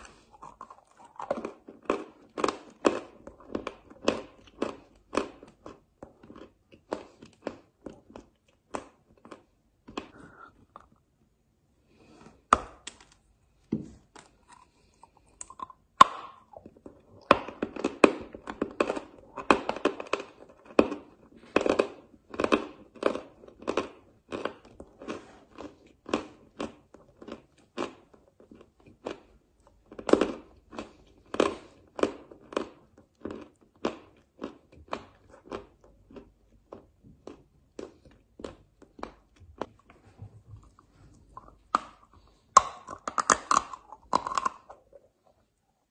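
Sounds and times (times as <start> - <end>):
person chewing chalk crunchily: 0.0 - 11.0, 14.1 - 45.5.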